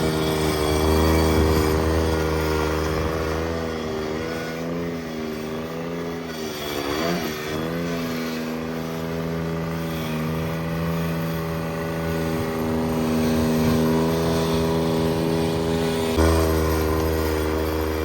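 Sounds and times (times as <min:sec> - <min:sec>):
garden tractor engine running: 0:00.0 - 0:18.0.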